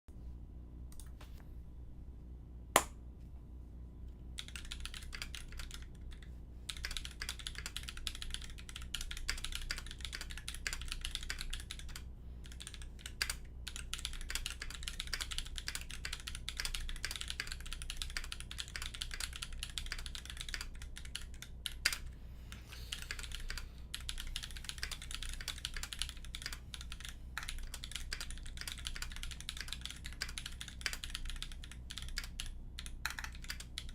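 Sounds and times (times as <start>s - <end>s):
mechanical keyboard typing: 4.4s - 22.1s, 22.9s - 33.9s.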